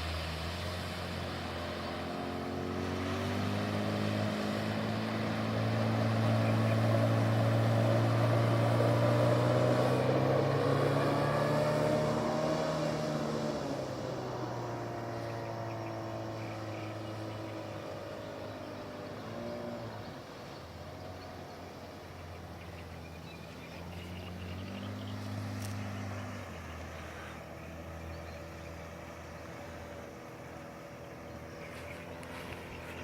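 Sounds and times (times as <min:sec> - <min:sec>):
outboard motor running: 0:00.0 - 0:33.0.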